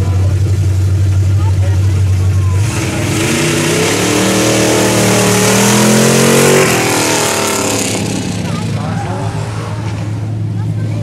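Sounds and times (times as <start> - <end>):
car engine revving and accelerating: 1.7 - 11.0.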